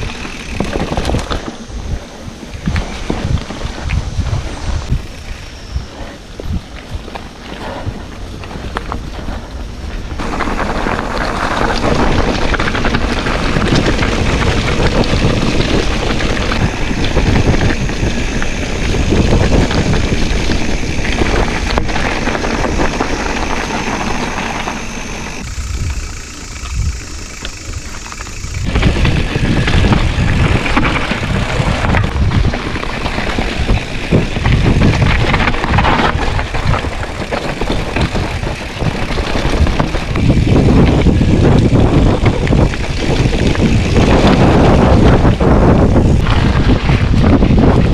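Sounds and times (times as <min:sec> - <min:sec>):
bike rattling over rocks: 0:00.0 - 0:47.9
bike tyres rolling on dirt: 0:00.0 - 0:47.9
wind rushing over microphone: 0:00.0 - 0:47.9.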